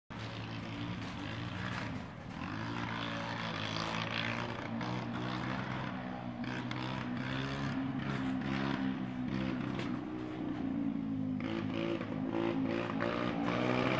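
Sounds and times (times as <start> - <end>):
motorcycle engine running: 0.1 - 13.9.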